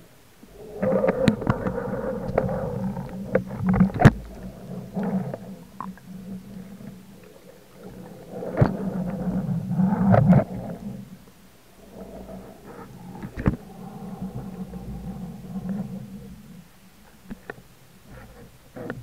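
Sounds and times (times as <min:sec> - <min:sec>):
underwater water rushing and bubbling: 0:00.2 - 0:17.6.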